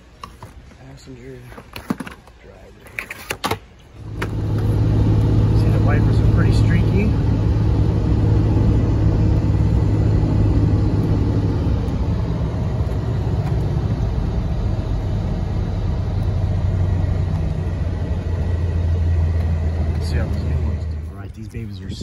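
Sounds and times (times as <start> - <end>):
tyre and road noise: 0.0 - 22.0
low engine hum: 3.9 - 22.0.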